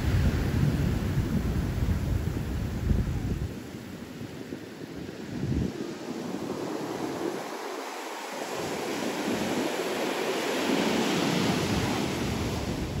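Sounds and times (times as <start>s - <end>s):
ocean surf breaking on beach: 0.0s - 13.0s
wind on microphone: 0.0s - 13.0s.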